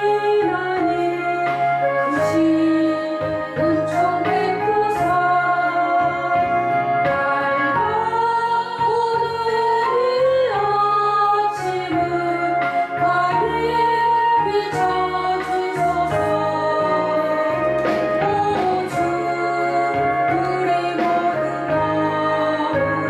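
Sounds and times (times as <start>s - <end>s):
instrumental accompaniment: 0.0s - 23.0s
woman singing a hymn: 0.0s - 23.0s.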